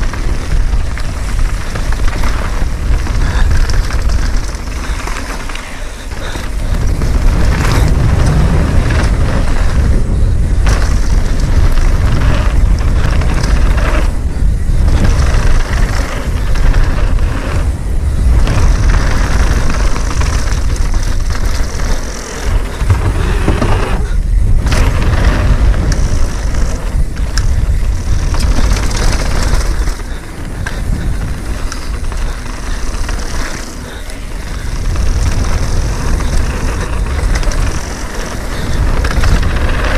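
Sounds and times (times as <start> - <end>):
bike rattles and knocks: 0.0 - 39.9
bike tyres rumbling over dirt: 0.0 - 39.9
wind buffeting microphone: 0.0 - 39.9.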